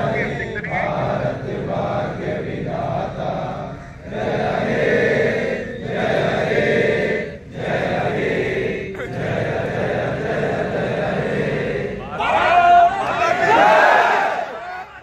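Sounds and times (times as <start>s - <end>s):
crowd of men chanting: 0.0s - 15.0s.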